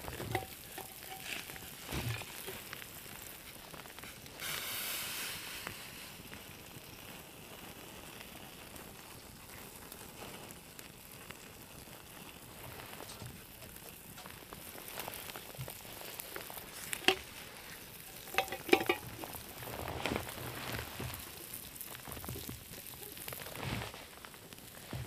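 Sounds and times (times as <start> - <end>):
meat sizzling while frying: 0.0 - 25.0.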